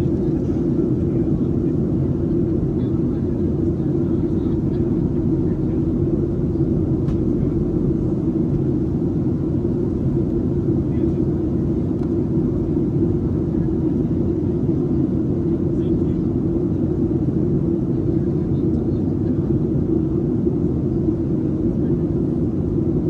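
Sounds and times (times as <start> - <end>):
airplane cabin drone: 0.0 - 23.0.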